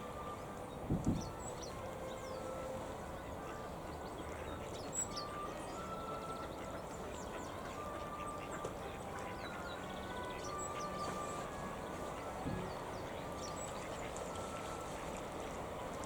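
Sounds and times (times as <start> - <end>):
small birds chirping: 0.6 - 15.8
ducks calling: 1.2 - 16.0.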